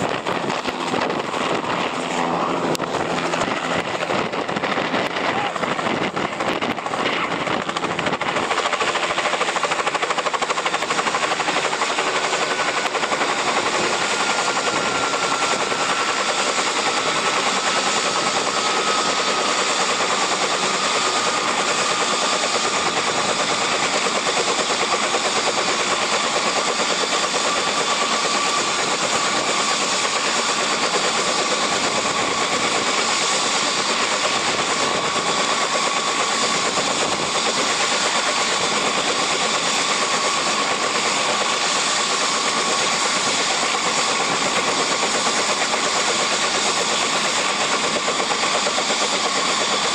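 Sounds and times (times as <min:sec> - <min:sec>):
helicopter blade chop: 0:00.0 - 0:49.9
turbine whine: 0:00.0 - 0:49.9.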